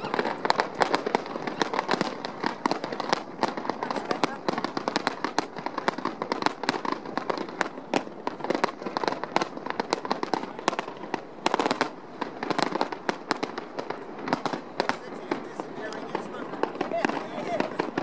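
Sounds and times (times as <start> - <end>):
fireworks popping and crackling: 0.0 - 18.0.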